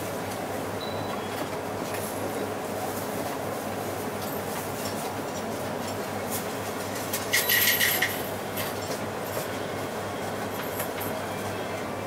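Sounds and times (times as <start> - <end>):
bus engine and road drone: 0.0 - 12.0.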